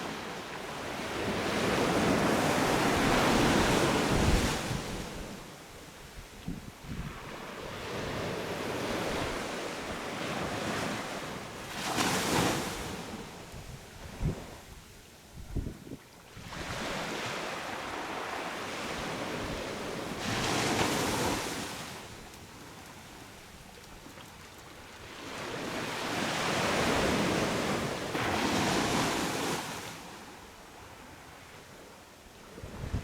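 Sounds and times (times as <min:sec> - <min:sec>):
sea waves breaking on beach: 0:00.0 - 0:05.5, 0:07.0 - 0:13.5, 0:16.3 - 0:31.6.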